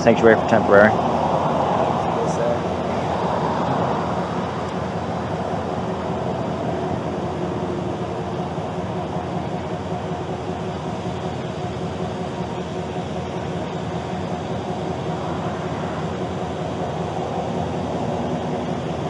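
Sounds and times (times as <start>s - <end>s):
traffic engines droning: 0.0s - 19.0s
faint hum: 0.3s - 19.0s.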